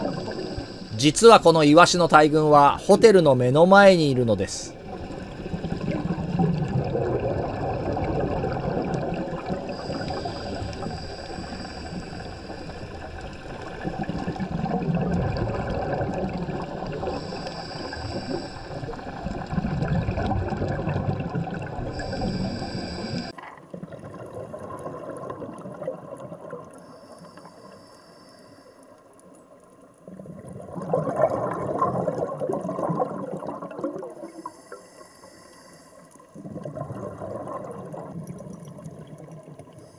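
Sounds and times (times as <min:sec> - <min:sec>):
underwater air bubbles gurgling: 0:00.0 - 0:39.9.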